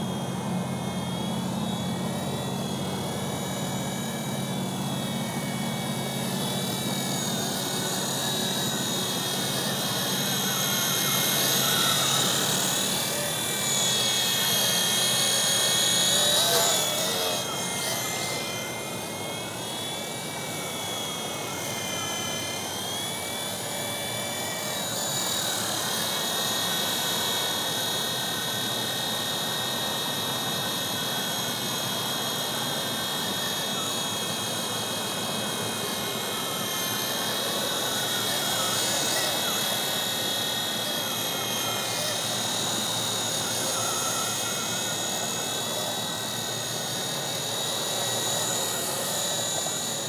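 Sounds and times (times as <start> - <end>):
toy helicopter motor whine: 0.0 - 50.0.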